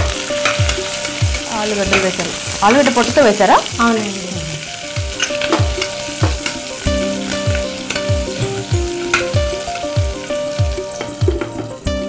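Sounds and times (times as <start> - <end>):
music with drum beat and synth: 0.0 - 2.7, 3.7 - 12.0
vegetables sizzling in oil: 0.0 - 11.9.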